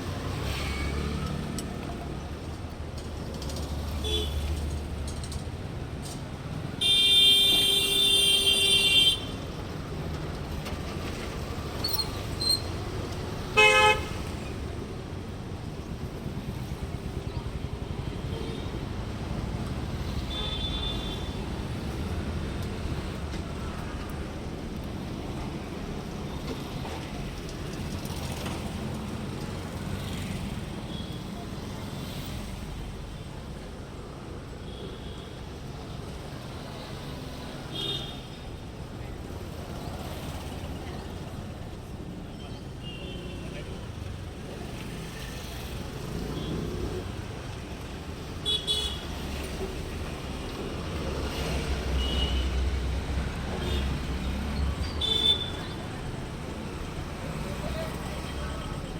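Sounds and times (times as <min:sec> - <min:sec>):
street traffic rumble: 0:00.0 - 0:58.9.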